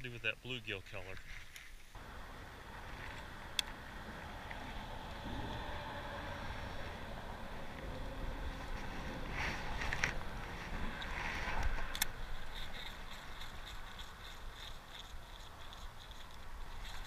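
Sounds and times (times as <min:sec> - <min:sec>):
wind rumble on microphone: 0:02.0 - 0:17.0.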